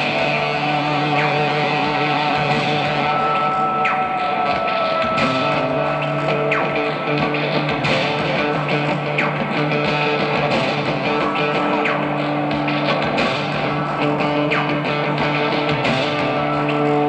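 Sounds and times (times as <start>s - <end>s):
falling guitar sweep: 0.0s - 17.0s
live rock band playing: 0.0s - 17.0s.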